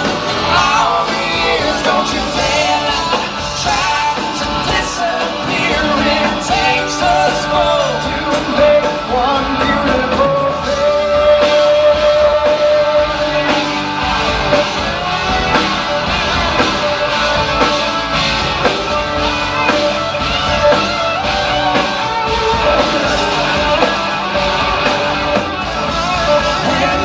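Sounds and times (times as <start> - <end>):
bass guitar: 0.0 - 27.0
electric guitars: 0.0 - 27.0
steady drum beat: 0.0 - 27.0.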